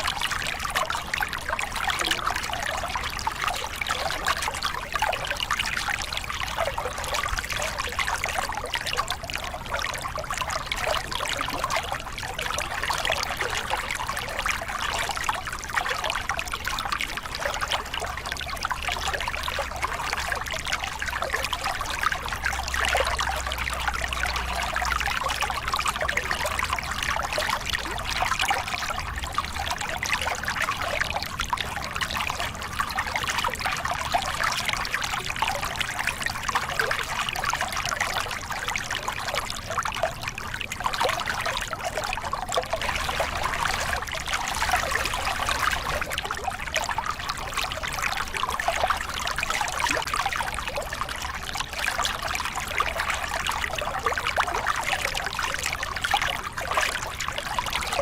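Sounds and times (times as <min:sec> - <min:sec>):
water splashing over rocks: 0:00.0 - 0:58.0.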